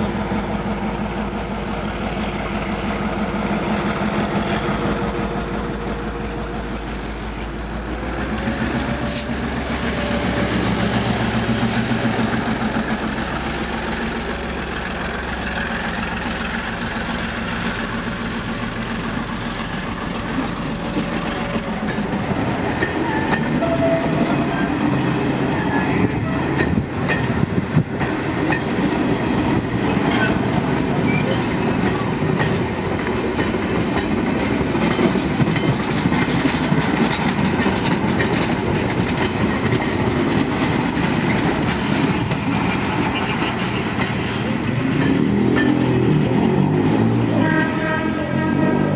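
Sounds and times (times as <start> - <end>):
diesel locomotive engine running: 0.0 - 48.9
train coaches clickety-clack: 0.0 - 48.9.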